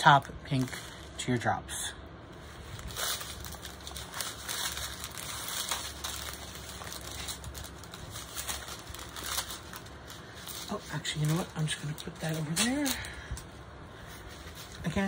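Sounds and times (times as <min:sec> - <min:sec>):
plastic bags crinkling: 0:00.0 - 0:01.2, 0:02.3 - 0:15.0.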